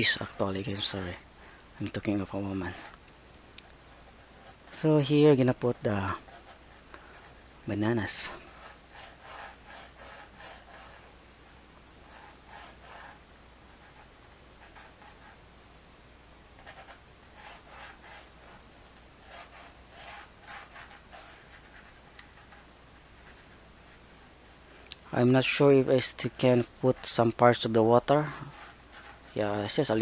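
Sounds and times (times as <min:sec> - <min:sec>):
pencil scratching on paper: 0:00.0 - 0:01.2, 0:01.9 - 0:03.0, 0:03.8 - 0:15.4, 0:16.6 - 0:24.6, 0:25.4 - 0:30.0.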